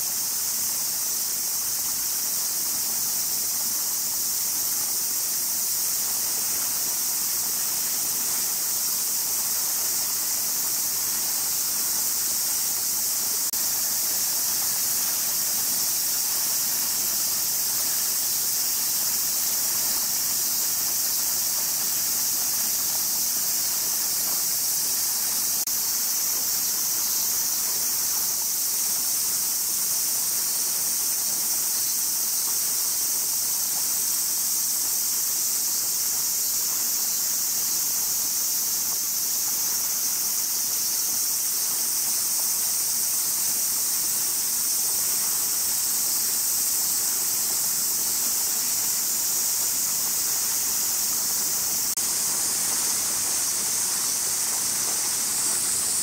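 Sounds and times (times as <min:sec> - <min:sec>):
cicada chorus droning: 0:00.0 - 0:56.0.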